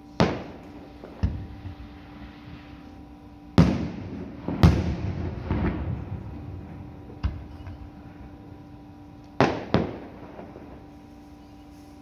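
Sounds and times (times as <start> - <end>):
fireworks booming: 0.0 - 11.2.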